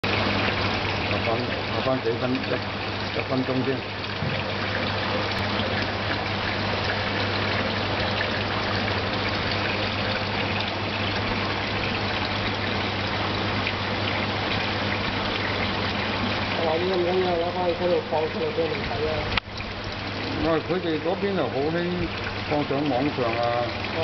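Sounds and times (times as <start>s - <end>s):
pump humming: 0.0s - 24.0s
water splashing: 0.0s - 24.0s.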